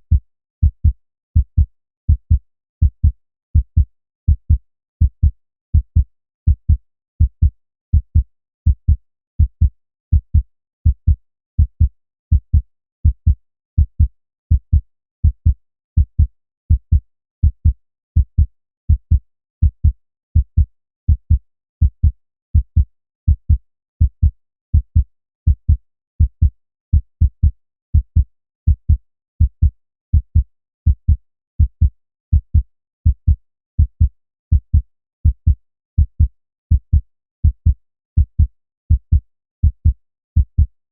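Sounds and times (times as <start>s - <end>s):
human heartbeat: 0.0s - 40.8s.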